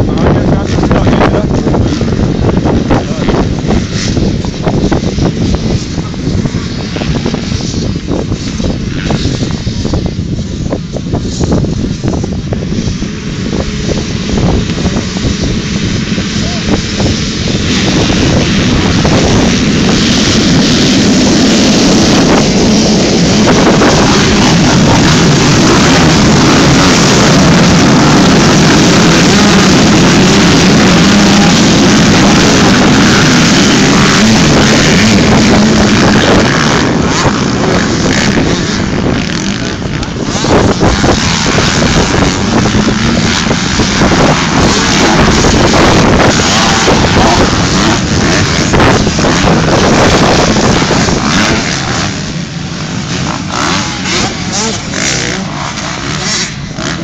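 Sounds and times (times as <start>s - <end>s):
motocross bikes racing by: 0.0s - 57.0s.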